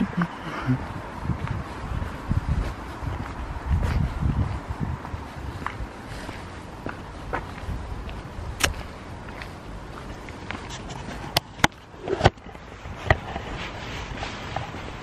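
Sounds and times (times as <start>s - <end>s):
footsteps: 0.2s - 15.0s.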